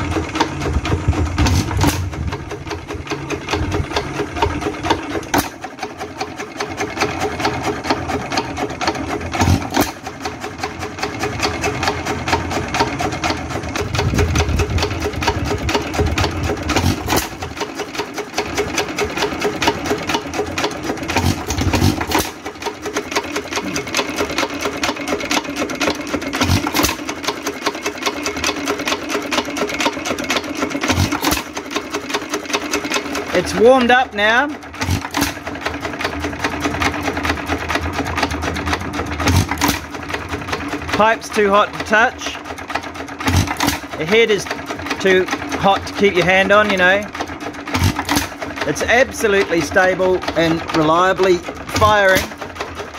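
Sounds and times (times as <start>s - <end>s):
engine fast even clatter: 0.0s - 52.9s.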